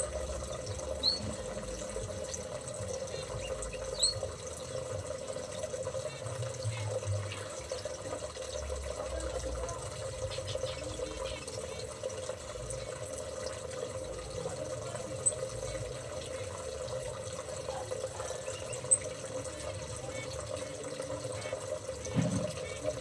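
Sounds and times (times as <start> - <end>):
water running: 0.0 - 23.0.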